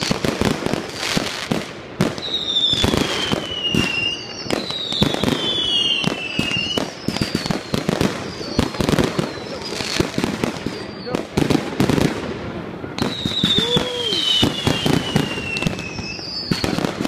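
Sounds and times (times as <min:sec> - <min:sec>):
falling firework whistles: 0:00.0 - 0:11.4, 0:13.0 - 0:17.0
fireworks bangs and crackling: 0:00.0 - 0:17.0.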